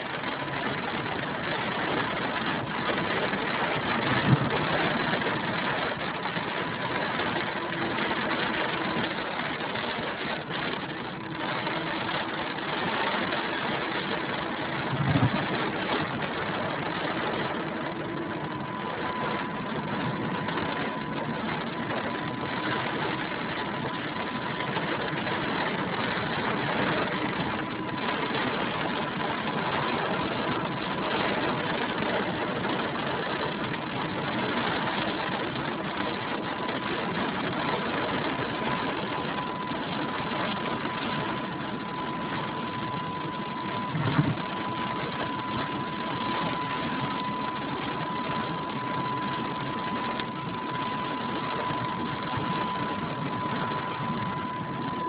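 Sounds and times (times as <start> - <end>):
car engine running: 0.0 - 55.0
rain on windscreen: 0.0 - 55.0.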